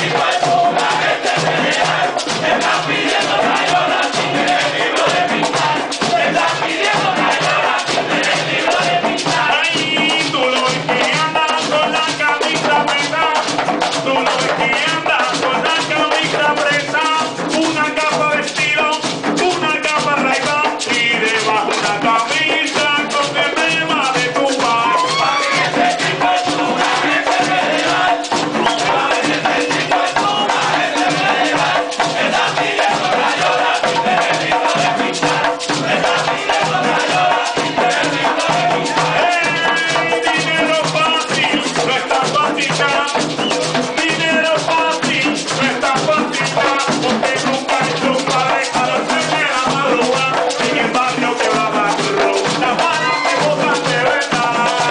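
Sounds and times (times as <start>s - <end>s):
hand-struck frame drums: 0.0s - 54.9s
lead singer and group singing: 0.0s - 54.9s.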